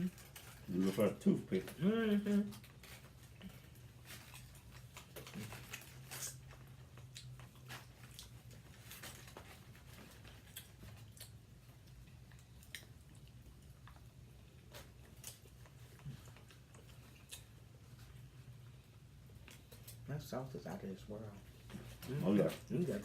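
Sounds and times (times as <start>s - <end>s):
low steady hum: 0.0s - 23.0s
people chewing and eating: 0.0s - 23.0s.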